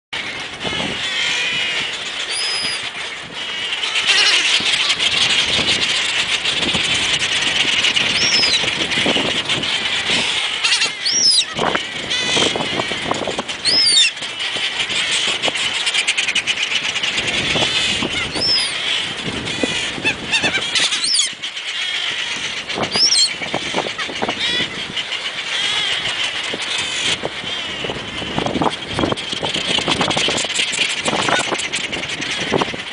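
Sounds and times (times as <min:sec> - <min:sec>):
chatter of many seabirds: 0:00.2 - 0:32.9
gulls calling: 0:00.2 - 0:32.9.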